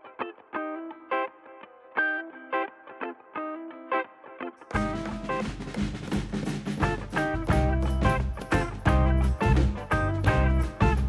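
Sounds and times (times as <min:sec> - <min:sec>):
plucked guitar notes with effects: 0:00.0 - 0:06.0, 0:06.6 - 0:11.0.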